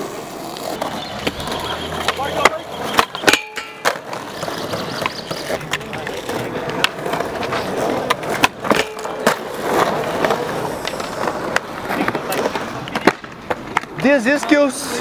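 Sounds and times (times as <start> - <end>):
skateboard clacks: 0.0 - 15.0
skateboard wheels rolling on concrete: 0.0 - 15.0.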